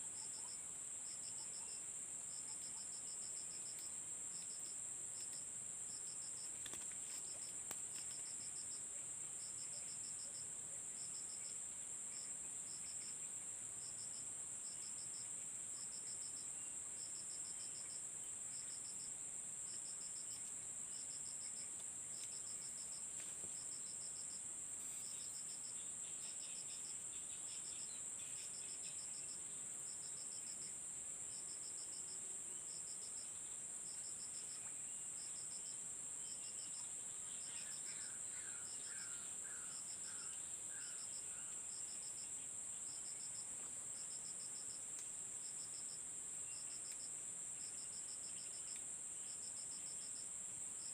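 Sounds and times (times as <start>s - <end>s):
cricket chirping: 0.0s - 50.9s
insects droning: 0.0s - 50.9s.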